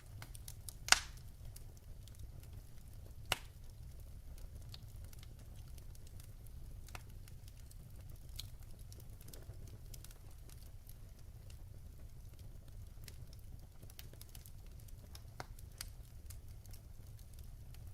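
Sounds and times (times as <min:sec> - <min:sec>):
low fire rumble: 0:00.0 - 0:17.9
wood fire crackling: 0:00.0 - 0:17.9.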